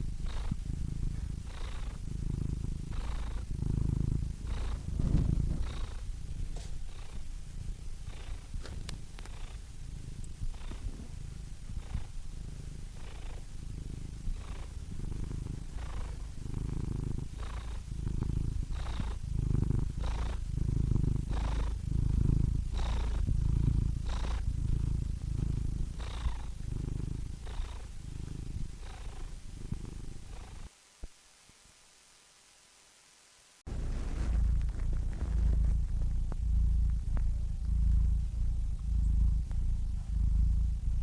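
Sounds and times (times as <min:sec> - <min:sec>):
cat purring: 0:00.0 - 0:31.2, 0:33.6 - 0:41.0.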